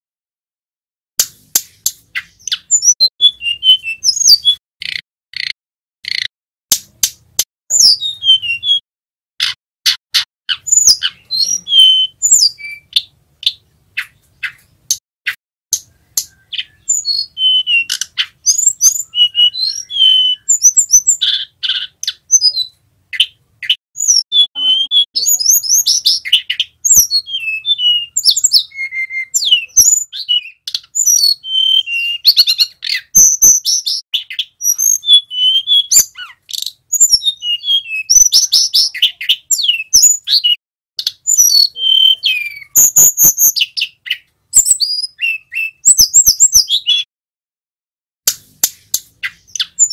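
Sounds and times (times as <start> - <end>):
bird singing with clicks and trills: 1.2 - 8.8, 9.4 - 47.1, 48.3 - 49.9.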